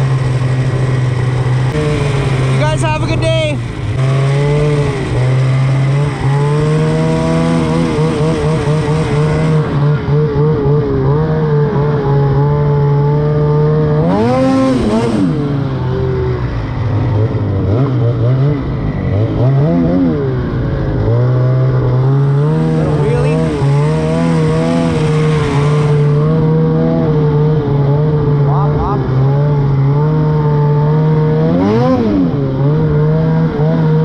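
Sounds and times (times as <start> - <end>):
snowmobile engine revving: 0.0 - 34.0.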